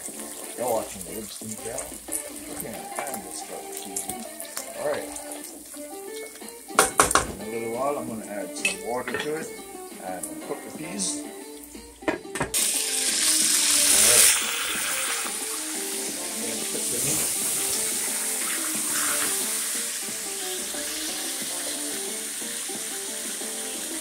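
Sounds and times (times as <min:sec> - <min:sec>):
background music: 0:00.0 - 0:24.0
meat sizzling in oil: 0:00.0 - 0:24.0.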